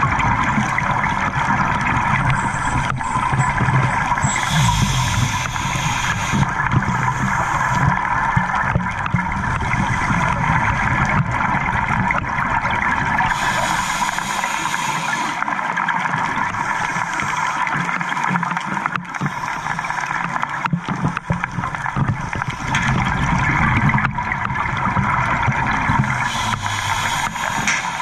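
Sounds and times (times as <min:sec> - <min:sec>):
scuba exhaust bubbles gurgling: 0:00.0 - 0:28.0
steady underwater hum: 0:00.0 - 0:28.0.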